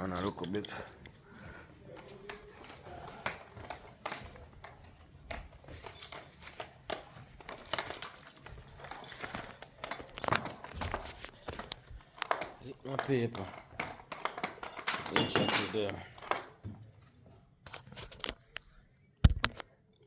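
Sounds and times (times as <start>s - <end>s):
hand tools clicking and knocking: 0.0s - 16.6s.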